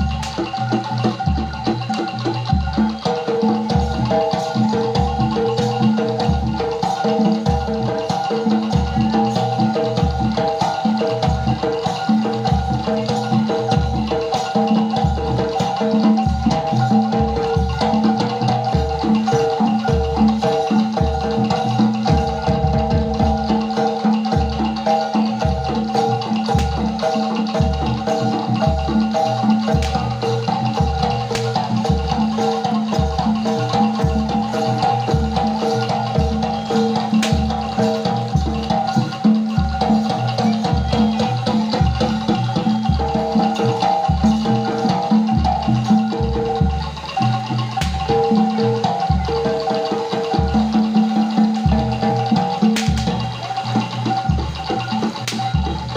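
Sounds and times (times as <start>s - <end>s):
low drum beat: 0.0s - 14.2s, 14.8s - 55.9s
metallophones and gong-chimes ringing: 0.0s - 55.9s.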